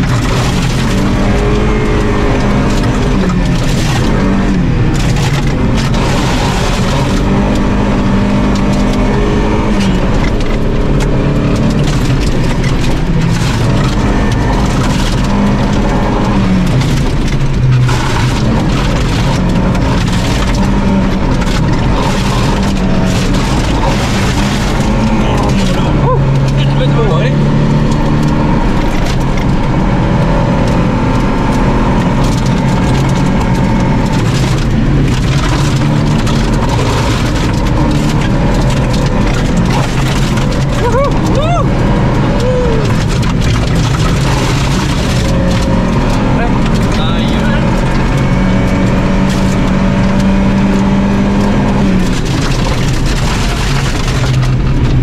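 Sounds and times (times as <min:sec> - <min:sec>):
car engine running hard: 0:00.0 - 0:55.0
gravel rattling against underbody: 0:00.0 - 0:55.0.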